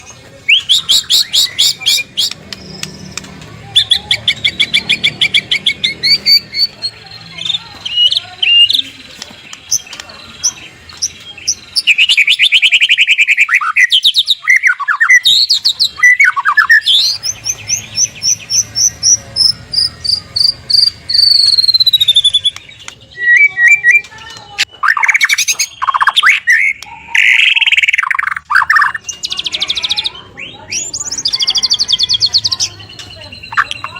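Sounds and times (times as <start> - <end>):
songbird singing varied trills: 0.4 - 33.9.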